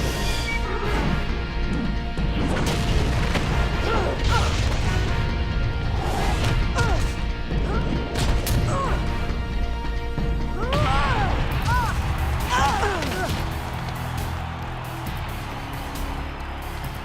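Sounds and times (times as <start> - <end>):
background music score: 0.0 - 17.0.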